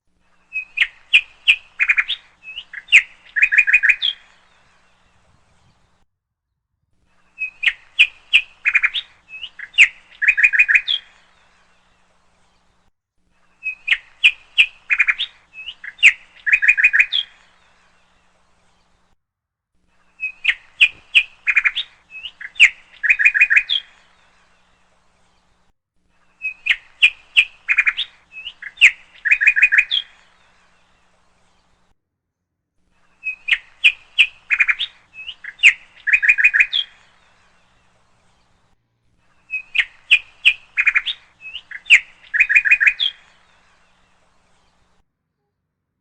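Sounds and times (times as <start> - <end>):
songbird chirps and trills: 0.1 - 6.0, 7.1 - 19.2, 19.8 - 31.9, 32.9 - 45.0.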